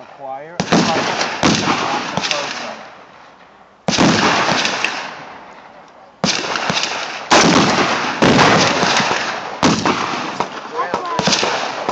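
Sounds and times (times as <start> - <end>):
rifle shots echoing: 0.0 - 3.2, 3.8 - 11.9.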